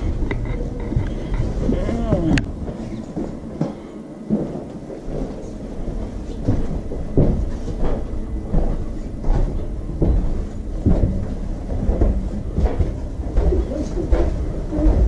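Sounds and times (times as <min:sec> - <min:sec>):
low rumble: 0:00.0 - 0:03.6, 0:05.1 - 0:15.0
footsteps on wooden floor: 0:00.0 - 0:15.0.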